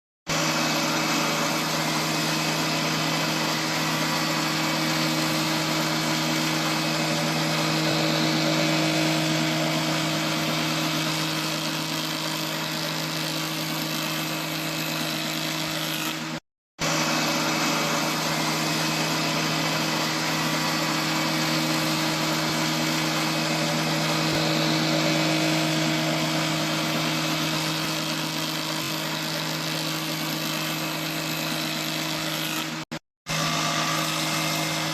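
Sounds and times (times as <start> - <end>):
planer machine humming: 0.3 - 34.9.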